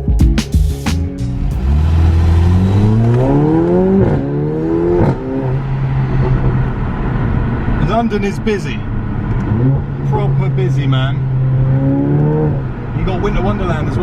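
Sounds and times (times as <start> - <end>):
car engine accelerating hard: 1.4 - 14.0.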